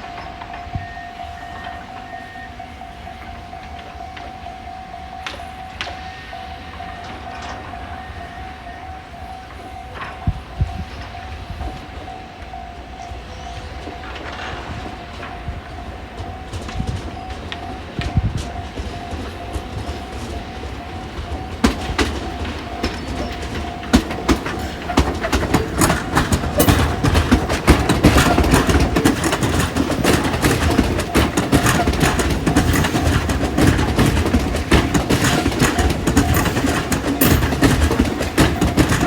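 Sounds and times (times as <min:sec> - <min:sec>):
electric train running past: 0:00.0 - 0:39.0
wheels clicking over rail joints: 0:00.0 - 0:39.0.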